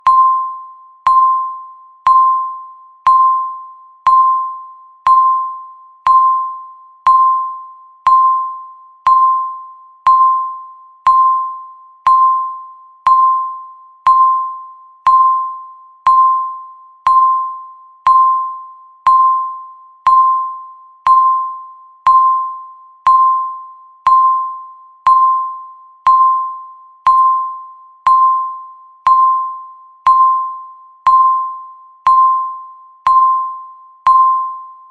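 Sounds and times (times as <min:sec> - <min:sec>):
timer beeps: 0:00.0 - 0:34.9.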